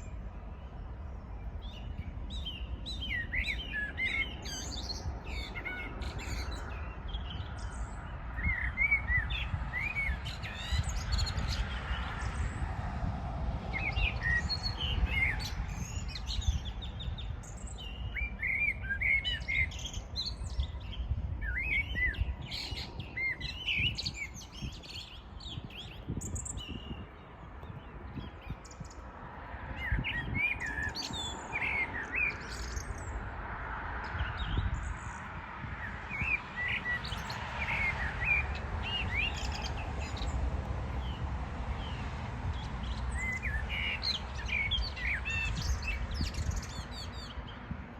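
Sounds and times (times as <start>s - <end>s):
songbirds chirping and singing: 0.0s - 47.9s.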